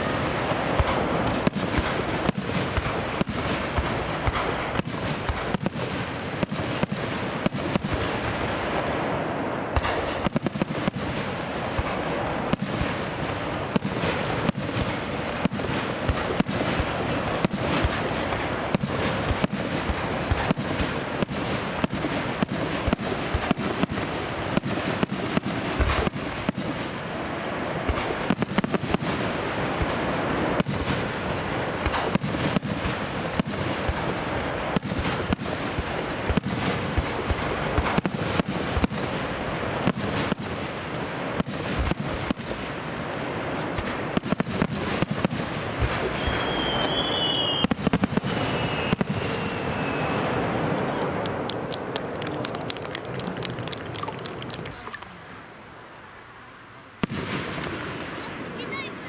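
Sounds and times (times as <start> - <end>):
fireworks bangs and crackles: 0.0 - 59.0
hiss and rumble of shells: 0.5 - 58.2.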